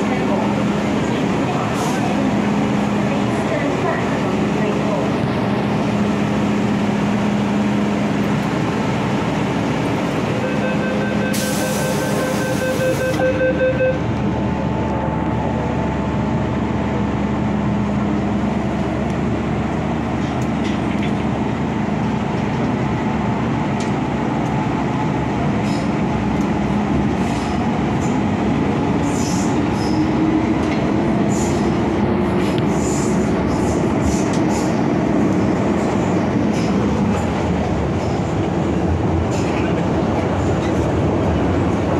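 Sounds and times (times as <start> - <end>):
train wheels rumbling on track: 0.0 - 13.2, 13.9 - 41.9.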